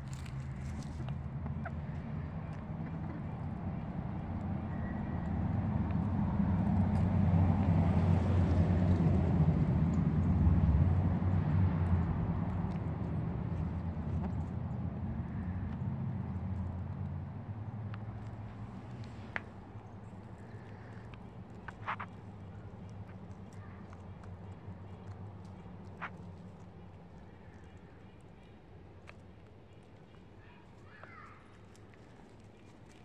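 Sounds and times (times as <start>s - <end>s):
passing vehicle engine rumble: 0.0s - 33.0s.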